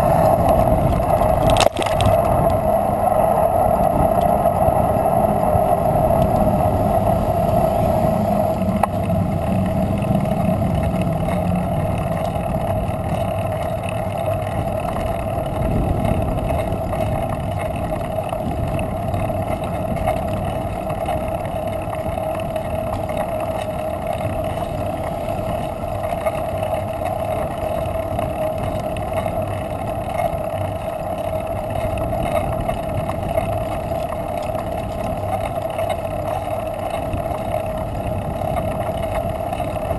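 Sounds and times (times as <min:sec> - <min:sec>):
bicycle rolling on asphalt: 0:00.0 - 0:39.9
mid-pitched hum: 0:00.0 - 0:39.9
wind on microphone: 0:00.0 - 0:39.9.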